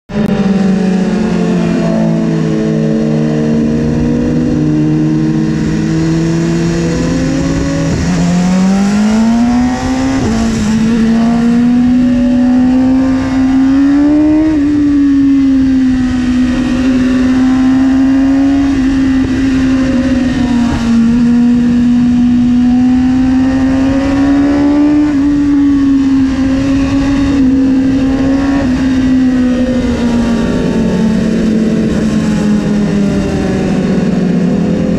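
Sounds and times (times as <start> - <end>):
motorcycle engine revving high: 0.1 - 34.9
wind rushing: 2.3 - 34.9.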